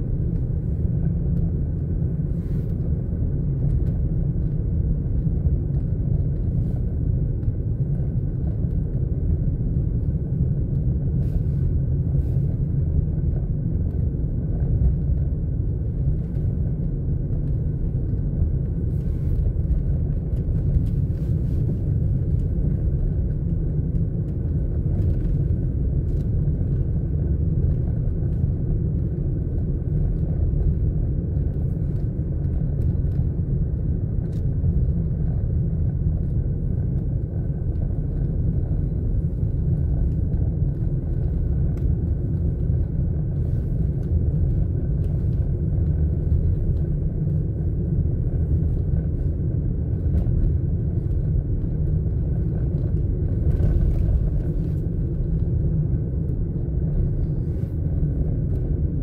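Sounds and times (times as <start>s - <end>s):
car engine and tyres rumble: 0.0s - 59.0s.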